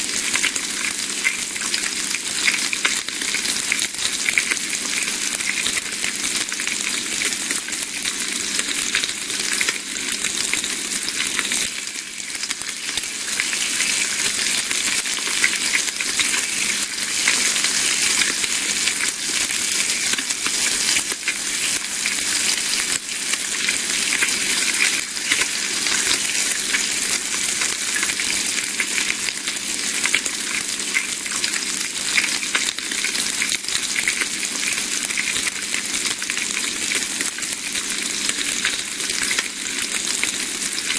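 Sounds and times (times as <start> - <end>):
bacon sizzling in a frying pan: 0.0 - 40.9.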